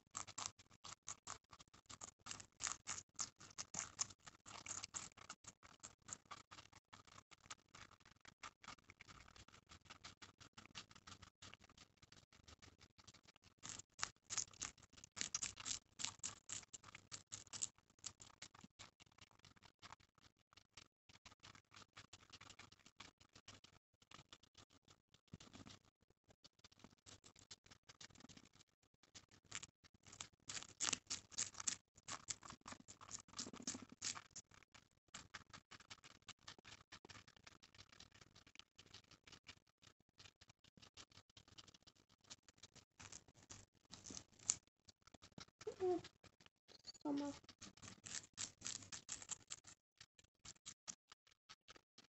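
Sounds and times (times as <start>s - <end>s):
guinea pigs crunching celery: 0.0s - 52.0s.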